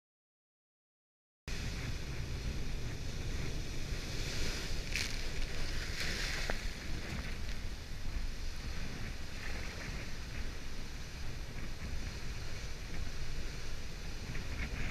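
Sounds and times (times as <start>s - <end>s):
ocean waves crashing on rocks: 1.5s - 14.9s
wind buffeting microphone: 1.5s - 14.9s.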